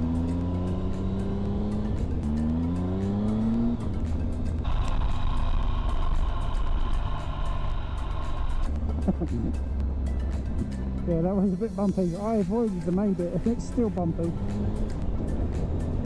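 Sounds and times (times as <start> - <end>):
background music: 0.0 - 16.0
motorcycle engine accelerating: 0.0 - 16.0
low wind rumble: 1.2 - 16.0.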